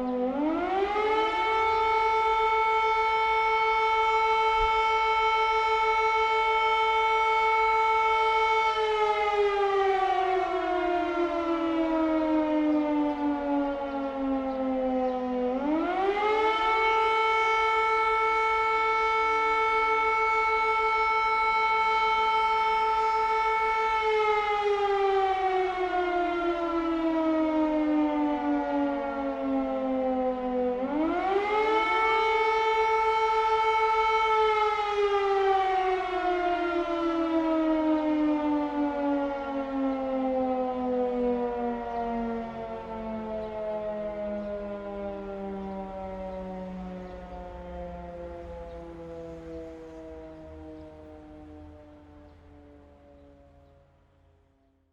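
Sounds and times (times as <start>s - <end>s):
air raid siren wailing: 0.0s - 54.9s.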